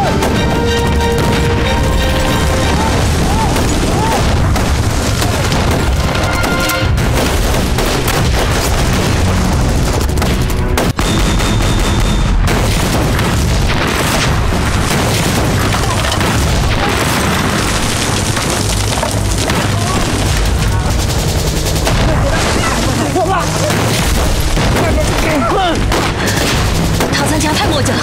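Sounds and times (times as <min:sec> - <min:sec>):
rifle and machine-gun fire: 0:00.0 - 0:28.0
explosion booms: 0:01.0 - 0:28.0.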